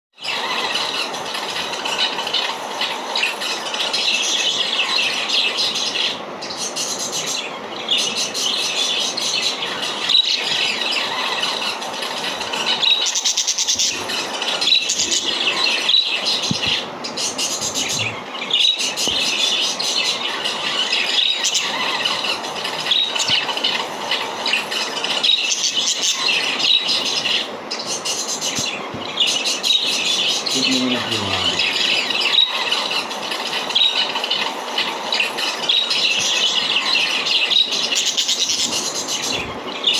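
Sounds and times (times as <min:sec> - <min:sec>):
parrots squealing and chattering: 0:00.2 - 0:39.9.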